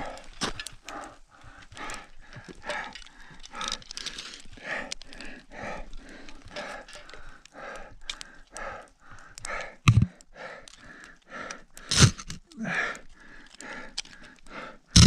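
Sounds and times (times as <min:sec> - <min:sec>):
climbing gear clicks and knocks: 0:00.0 - 0:15.0
heavy labored breathing: 0:00.0 - 0:15.0.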